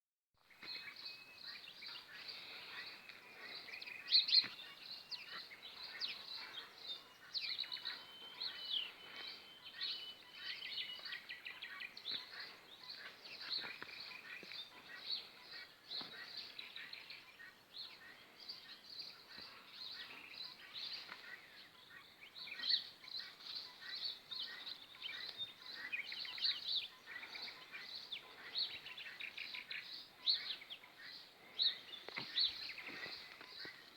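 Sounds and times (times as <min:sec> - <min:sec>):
small birds chirping and singing: 0:00.4 - 0:33.9.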